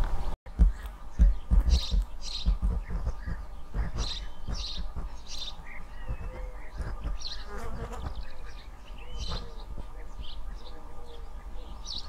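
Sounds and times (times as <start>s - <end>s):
sparrows chirping: 0.2s - 12.0s.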